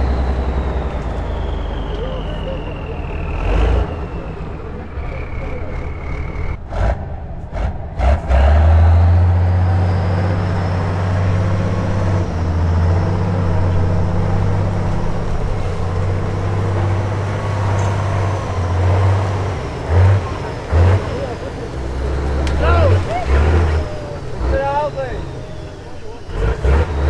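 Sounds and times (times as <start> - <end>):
truck engine under load: 0.0 - 27.0.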